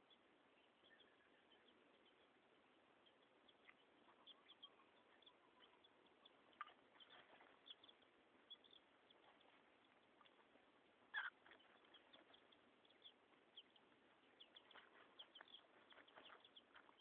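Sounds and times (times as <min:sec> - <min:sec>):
chicks peeping: 0:03.0 - 0:17.0.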